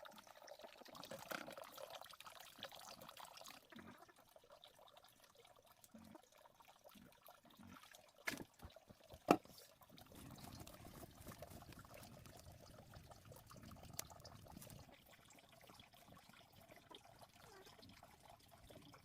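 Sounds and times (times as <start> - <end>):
faint trickle of water: 0.0 - 19.0.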